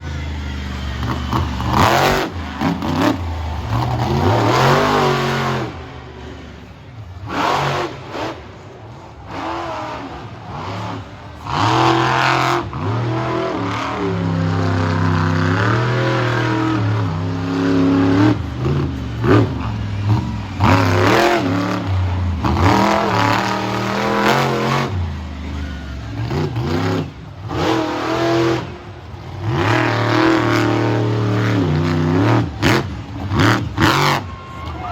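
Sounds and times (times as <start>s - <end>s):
monster truck engine revving: 0.0s - 34.9s.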